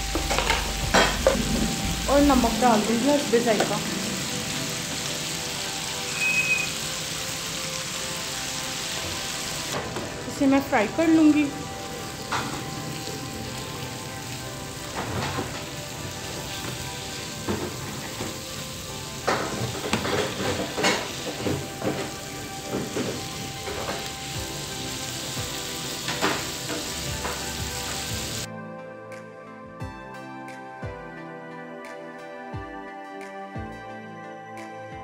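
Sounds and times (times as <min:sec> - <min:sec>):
chicken sizzling in oil: 0:00.0 - 0:28.5.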